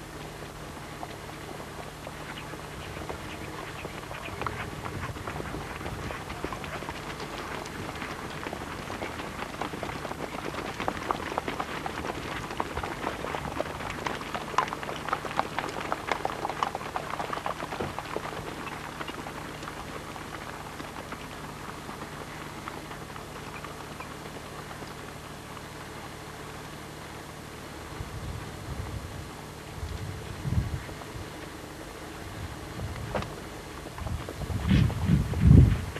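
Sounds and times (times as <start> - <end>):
horse hoofbeats on dirt: 0.0 - 28.6, 29.4 - 35.9.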